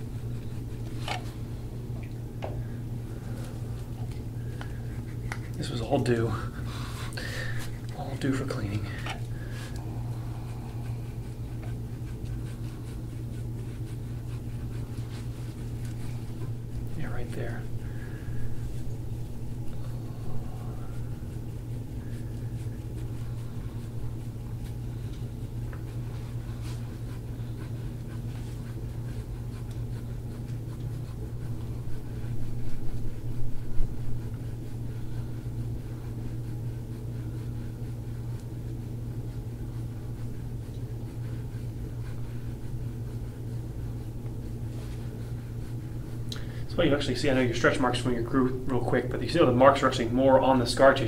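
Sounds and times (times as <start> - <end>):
low mechanical hum: 0.0 - 51.0
tool scraping over oiled skin: 3.3 - 51.0.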